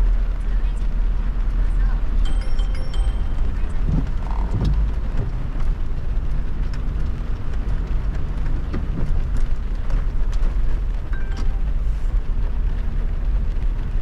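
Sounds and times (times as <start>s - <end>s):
raindrops ticking on car: 0.0s - 2.3s, 3.5s - 14.0s
tyres rumbling on wet road: 0.0s - 2.3s, 3.3s - 14.0s.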